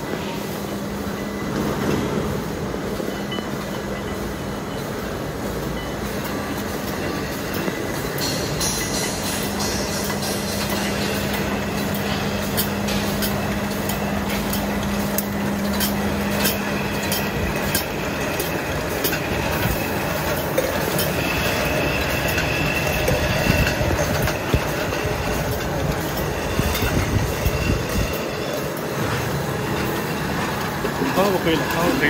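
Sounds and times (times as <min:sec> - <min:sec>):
cans clattering on conveyor: 0:05.6 - 0:32.0
steady mechanical rush: 0:06.2 - 0:32.0.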